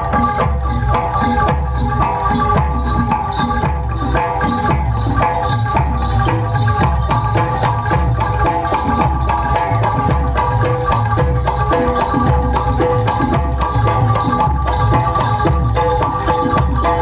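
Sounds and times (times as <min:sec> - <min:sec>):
hand drums driving beat: 0:00.0 - 0:17.0
ringing pitched percussion: 0:00.0 - 0:17.0.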